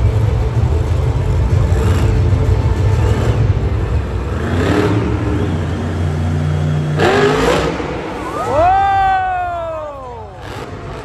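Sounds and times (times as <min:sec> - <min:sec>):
truck engine rumbling and revving: 0:00.0 - 0:11.0.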